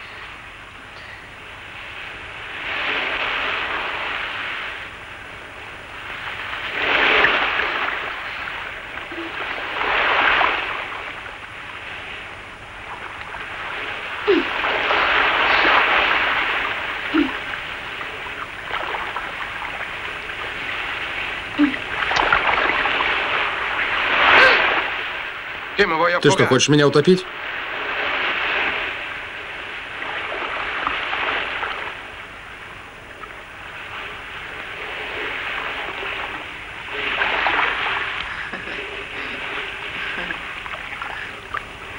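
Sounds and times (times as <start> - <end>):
surf breaking on beach: 0.0 - 41.9.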